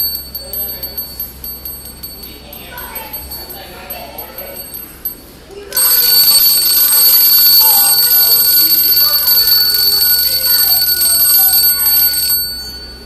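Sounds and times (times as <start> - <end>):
clockwork toy mechanism running: 0.0 - 13.0
toy bell ringing rapidly: 0.0 - 13.0.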